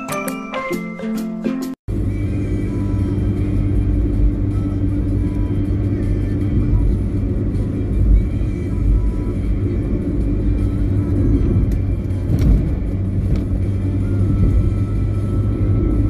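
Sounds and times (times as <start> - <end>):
background music: 0.0 - 16.0
trucks passing: 0.0 - 16.0
car driving on asphalt: 1.9 - 16.0.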